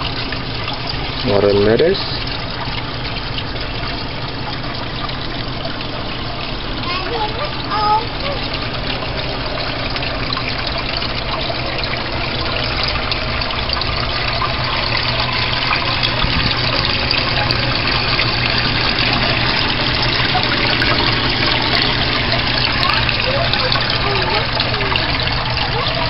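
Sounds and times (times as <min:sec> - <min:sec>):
pump hum: 0:00.0 - 0:26.0
water splashing: 0:00.0 - 0:26.0.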